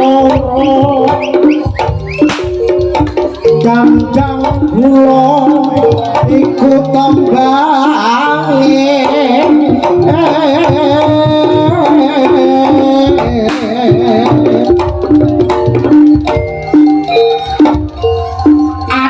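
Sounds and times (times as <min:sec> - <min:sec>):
hand drums: 0:00.0 - 0:19.0
ornamented melodic line: 0:00.0 - 0:19.0
pitched percussion: 0:00.0 - 0:19.0.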